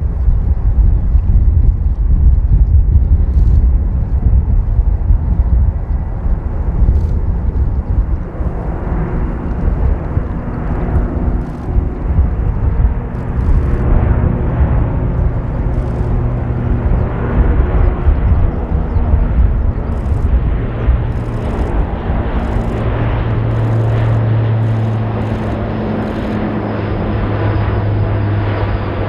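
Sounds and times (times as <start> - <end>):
propeller tones: 0.0 - 29.0
turboprop engines droning: 0.0 - 29.0.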